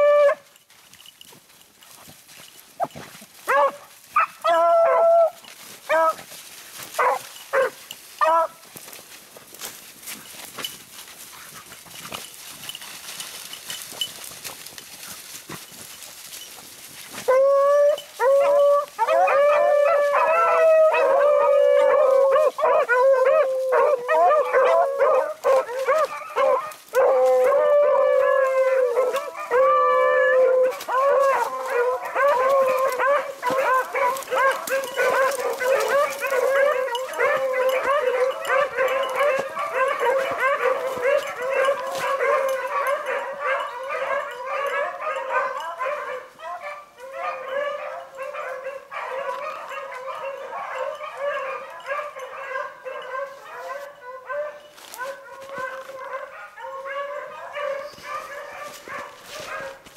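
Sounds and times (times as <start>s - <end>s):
hounds baying: 0.0s - 1.0s, 1.8s - 59.9s.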